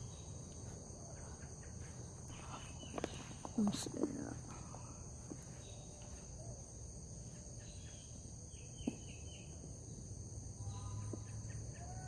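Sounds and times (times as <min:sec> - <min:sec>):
bird chirps: 0:00.0 - 0:09.6, 0:10.6 - 0:12.0
insects chorus: 0:00.0 - 0:12.0.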